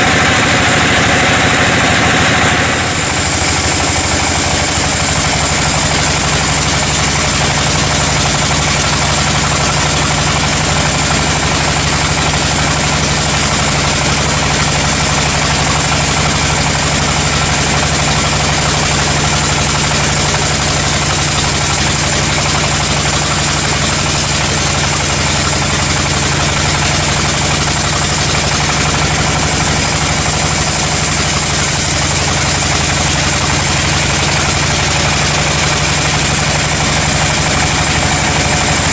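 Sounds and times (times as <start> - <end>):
sawmill engine drone: 0.0 - 38.9.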